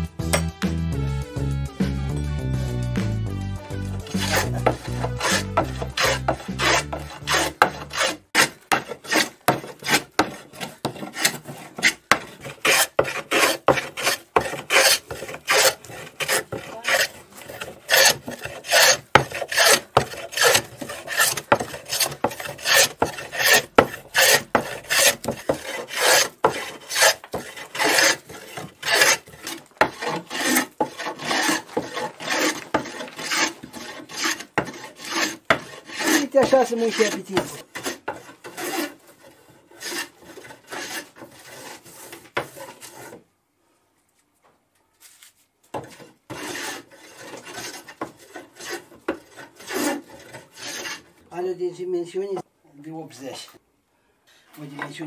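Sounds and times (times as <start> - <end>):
hand plane shaving wood: 3.8 - 43.2, 45.8 - 51.1.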